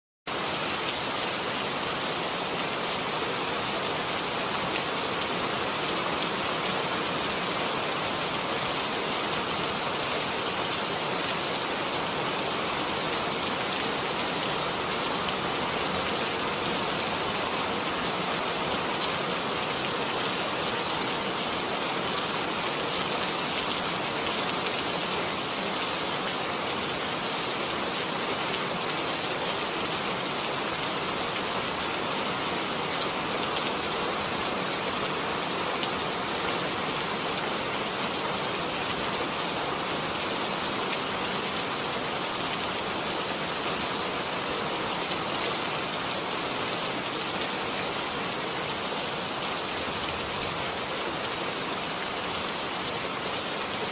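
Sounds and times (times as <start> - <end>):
heavy rain on pavement: 0.3 - 53.9.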